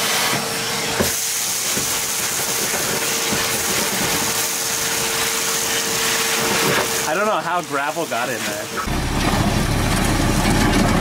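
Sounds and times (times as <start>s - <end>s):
shop vacuum motor whine: 0.0s - 9.8s.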